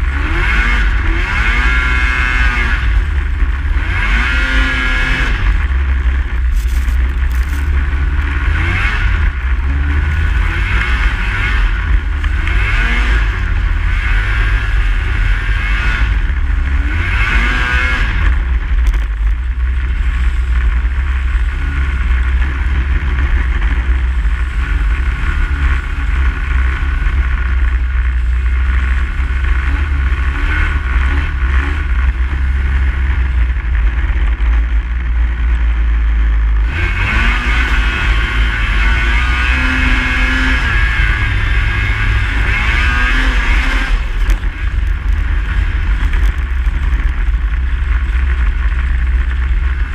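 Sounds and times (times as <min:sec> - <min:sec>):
heavy low rumble: 0:00.0 - 0:49.9
snowmobile engine revving: 0:00.0 - 0:49.9.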